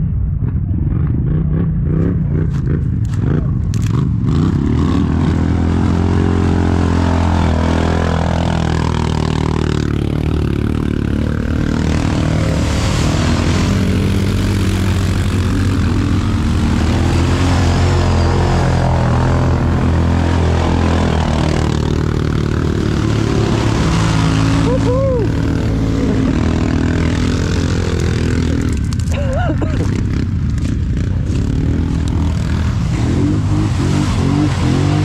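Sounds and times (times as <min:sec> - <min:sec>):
quad bike engine running: 0:00.7 - 0:35.0.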